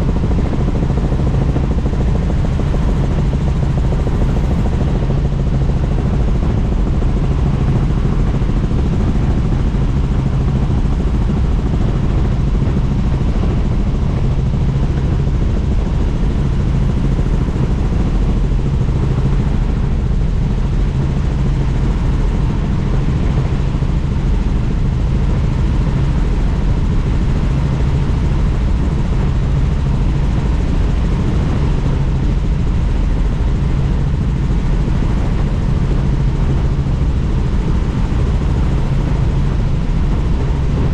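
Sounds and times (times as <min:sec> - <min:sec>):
helicopter rotor and engine noise: 0:00.0 - 0:40.9.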